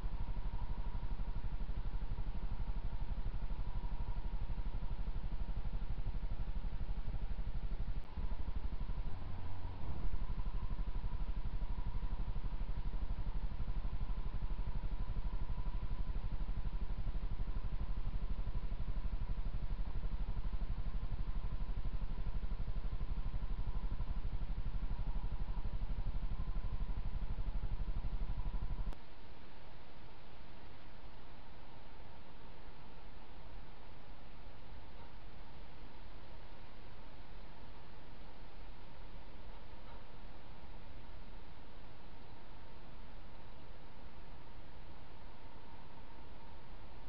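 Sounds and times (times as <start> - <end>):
electrical hum with hiss: 0.0 - 47.0.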